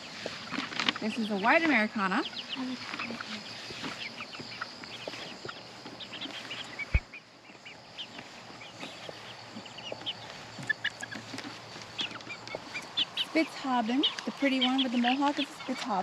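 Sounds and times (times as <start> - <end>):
young chickens peeping: 0.0 - 16.0.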